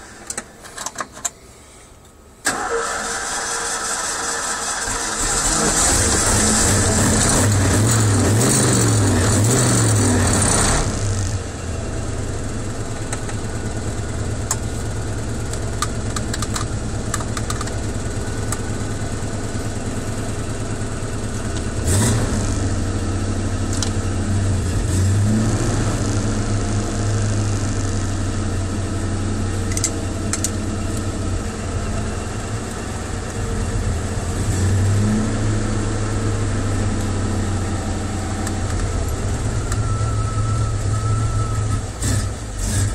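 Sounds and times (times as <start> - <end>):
car engine idling and revving: 2.6 - 42.9.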